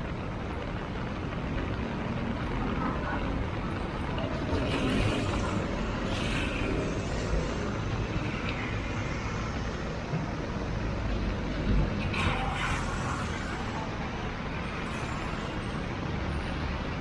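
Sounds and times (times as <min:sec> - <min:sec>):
heavy rain: 0:00.0 - 0:17.0
rumble of passing vehicles: 0:00.0 - 0:17.0
tyres hissing on wet road: 0:00.0 - 0:17.0.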